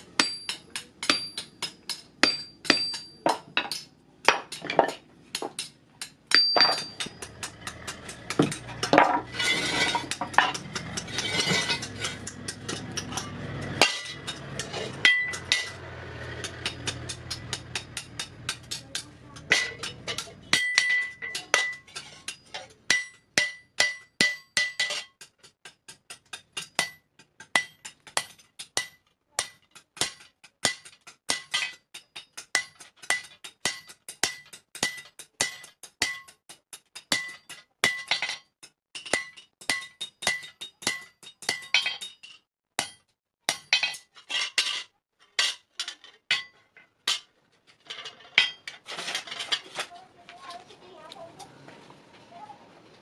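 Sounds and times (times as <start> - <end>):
hammer striking steel on anvil: 0.0 - 45.6, 46.3 - 47.3.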